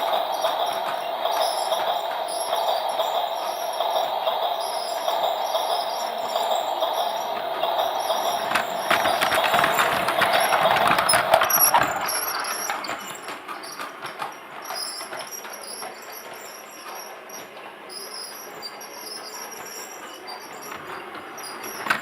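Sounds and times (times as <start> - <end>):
toy train motor whine: 0.0 - 22.0
wheels clicking on track: 0.0 - 22.0.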